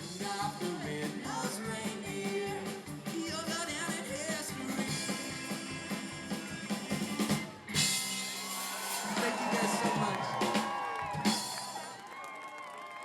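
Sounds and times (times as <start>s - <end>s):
rock band with singing: 0.0s - 12.2s.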